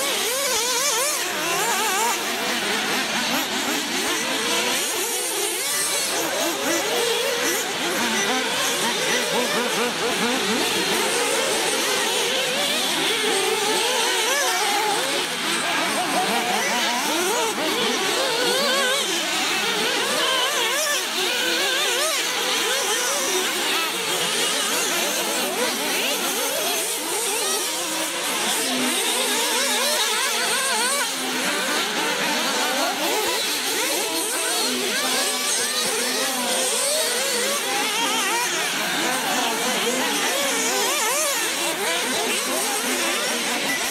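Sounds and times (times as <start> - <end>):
rc buggy engines revving: 0.0 - 43.9.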